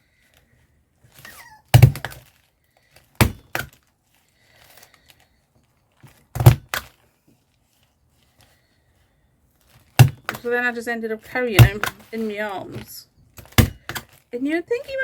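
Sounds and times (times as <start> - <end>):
paper rustling: 0.2 - 15.0.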